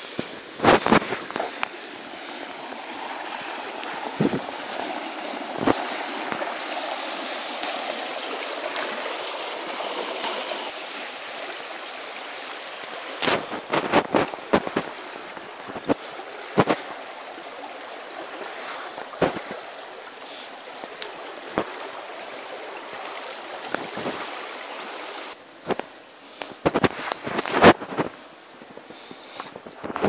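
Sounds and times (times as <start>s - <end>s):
river rushing over rocks: 0.0s - 25.4s.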